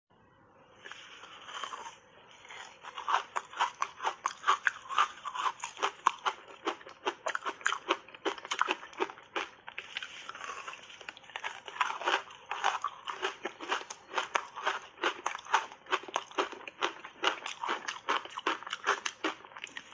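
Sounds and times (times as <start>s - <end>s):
crunching and chewing ice: 0.9s - 19.9s.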